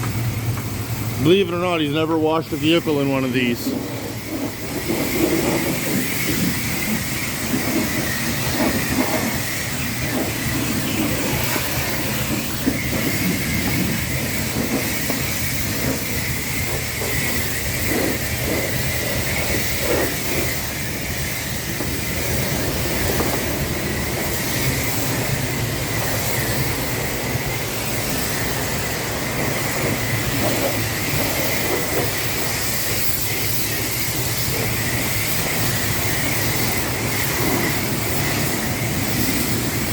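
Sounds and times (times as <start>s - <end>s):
constant low hum: 0.0s - 39.9s
high-pressure water spray hissing: 0.0s - 39.9s.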